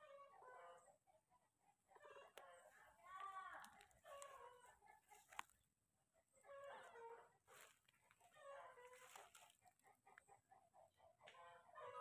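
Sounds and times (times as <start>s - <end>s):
faint chicken calls: 0.0s - 12.0s.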